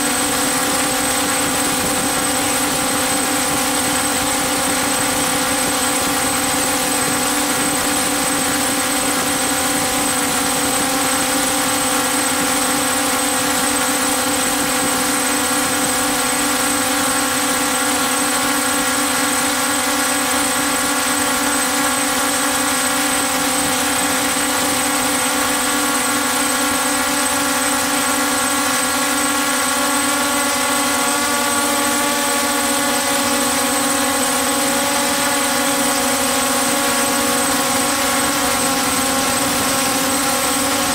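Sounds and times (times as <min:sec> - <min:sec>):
drone motors and propellers humming: 0:00.0 - 0:40.9.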